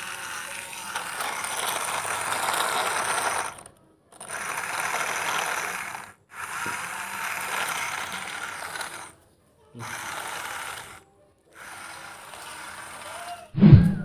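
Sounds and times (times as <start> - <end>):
toy truck rolling over dirt: 0.0 - 9.2, 9.8 - 13.5.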